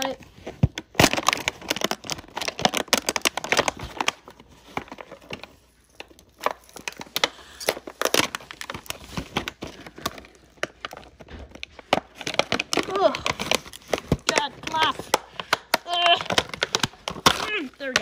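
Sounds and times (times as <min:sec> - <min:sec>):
plastic foil wrapper crinkling: 0:00.0 - 0:18.0.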